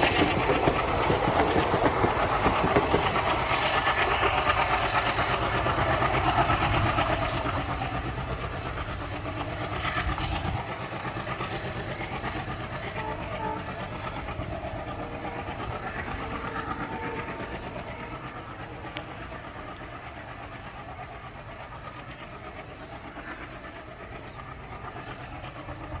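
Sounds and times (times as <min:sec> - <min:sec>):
train rumble and wheel clatter: 0:00.0 - 0:26.0.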